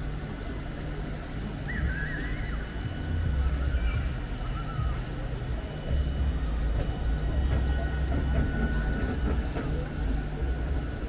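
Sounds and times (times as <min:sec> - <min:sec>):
tram rumbling past: 0:00.0 - 0:11.0.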